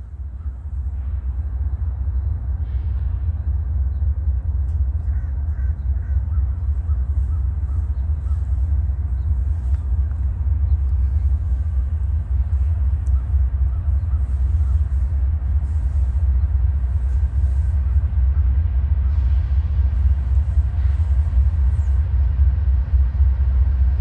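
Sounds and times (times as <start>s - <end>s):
distant train rumble: 0.0s - 24.0s.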